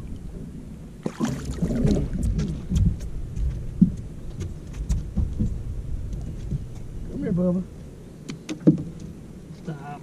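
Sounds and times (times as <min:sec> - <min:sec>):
low rumble of wind and water: 0:00.0 - 0:10.0.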